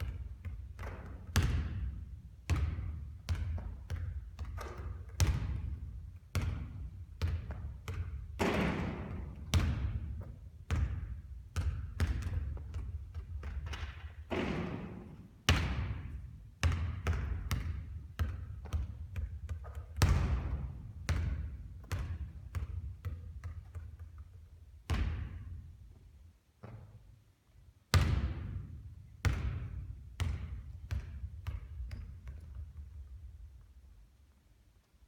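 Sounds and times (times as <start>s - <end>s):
basketball bouncing with echo: 0.0s - 27.0s, 27.9s - 33.5s.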